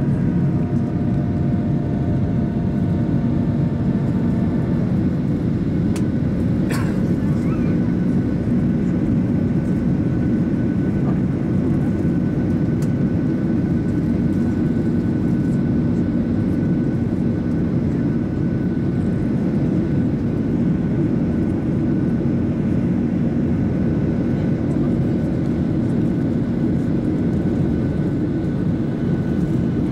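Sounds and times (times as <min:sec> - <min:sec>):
airplane cabin drone: 0:00.0 - 0:29.9.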